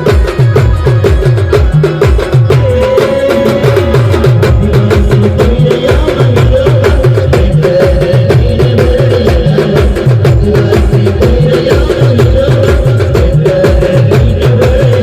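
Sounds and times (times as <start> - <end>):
deep bass drum beat: 0.0 - 15.0.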